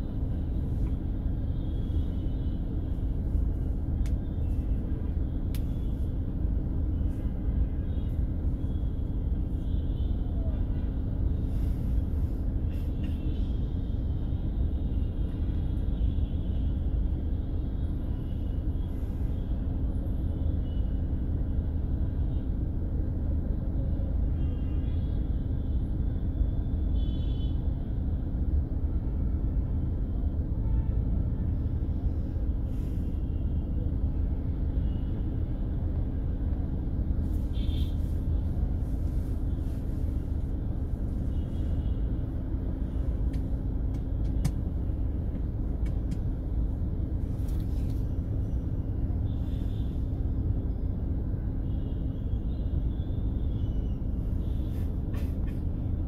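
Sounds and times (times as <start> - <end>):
constant hum: 0.0 - 56.0
vehicle engine and road rumble: 0.0 - 56.0.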